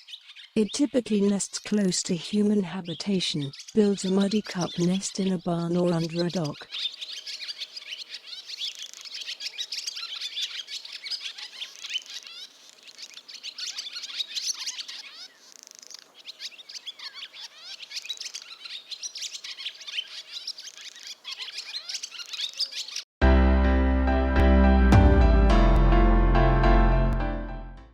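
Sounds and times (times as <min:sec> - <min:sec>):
swallows twittering: 0:00.0 - 0:23.1.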